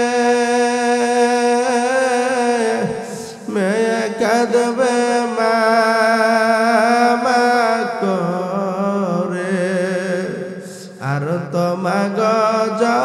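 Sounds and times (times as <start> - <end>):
man chanting in a sung wail: 0.0 - 13.0.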